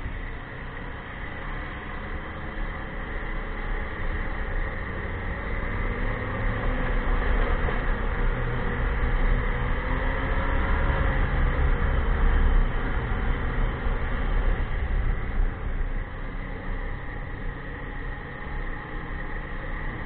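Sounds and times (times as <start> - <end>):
snowmobile engine and track running: 0.0 - 20.0.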